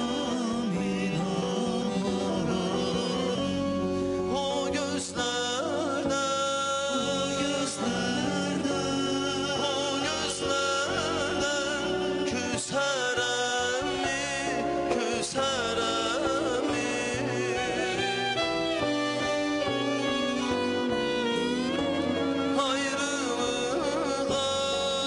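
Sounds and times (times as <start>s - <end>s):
backing music: 0.0s - 25.0s
male vocal group singing: 0.0s - 25.0s.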